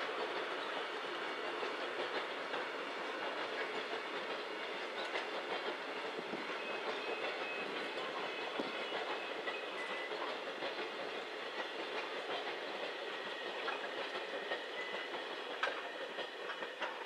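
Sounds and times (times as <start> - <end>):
train wheels rumbling on rails: 0.0 - 17.0
wheels clicking over rail joints: 0.0 - 17.0.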